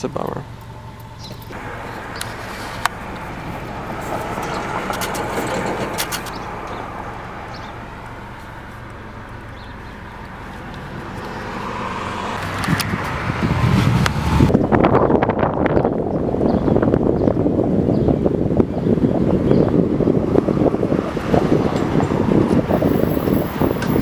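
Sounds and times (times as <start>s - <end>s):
car road and engine noise: 0.0s - 24.0s
wind buffeting microphone: 1.3s - 24.0s.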